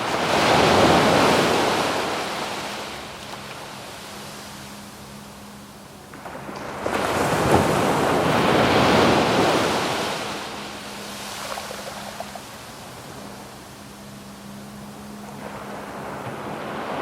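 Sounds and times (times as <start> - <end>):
wave breaking on beach: 0.0 - 4.8, 6.1 - 13.7, 15.2 - 17.0.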